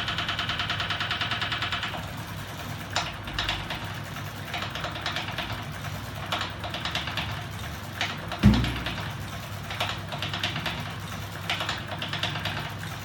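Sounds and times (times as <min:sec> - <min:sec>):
fast ratchet clicking: 0:00.0 - 0:13.0.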